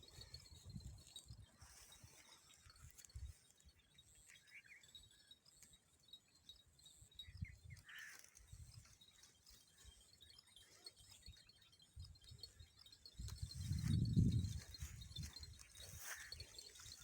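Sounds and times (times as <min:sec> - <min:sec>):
faint insect trill: 0:00.0 - 0:17.0
soft bird chirps: 0:01.1 - 0:17.0.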